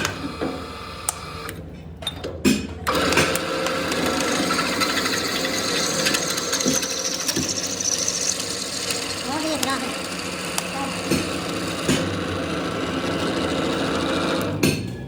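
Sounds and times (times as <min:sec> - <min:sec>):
workshop power tool running: 0:00.0 - 0:15.0.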